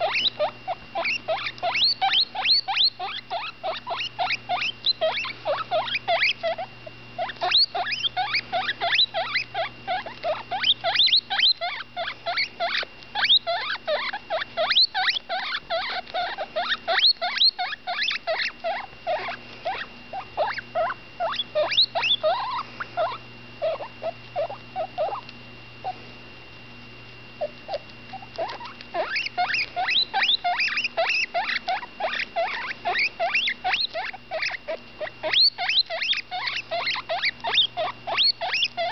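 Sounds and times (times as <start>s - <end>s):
guinea pig squeaking: 0.0s - 26.0s, 27.4s - 38.9s.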